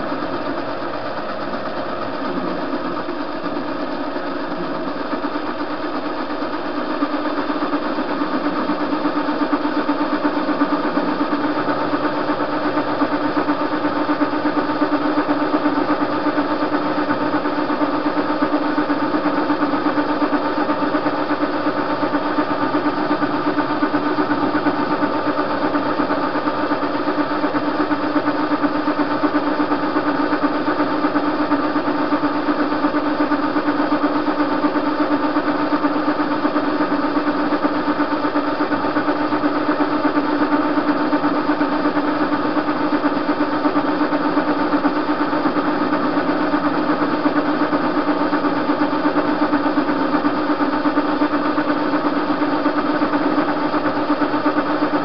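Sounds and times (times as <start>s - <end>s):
lathe humming: 0.0s - 55.0s.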